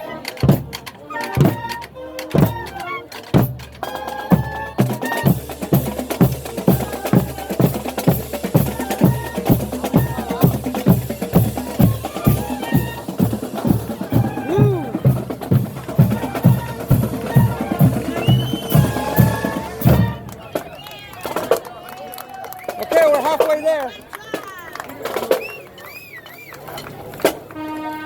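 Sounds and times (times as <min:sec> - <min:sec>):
marching drumline cadence: 0:00.0 - 0:21.7, 0:22.6 - 0:28.0
faint voices: 0:00.0 - 0:28.0.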